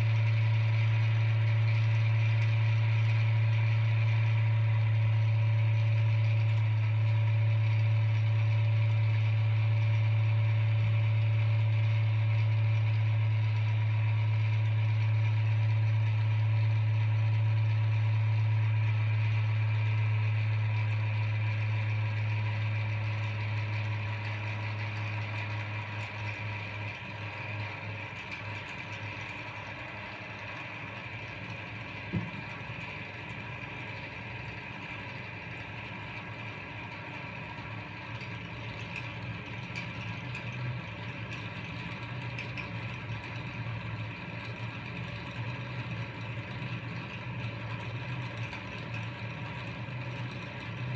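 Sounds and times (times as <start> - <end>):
exhaust fan motor humming: 0.0 - 50.9.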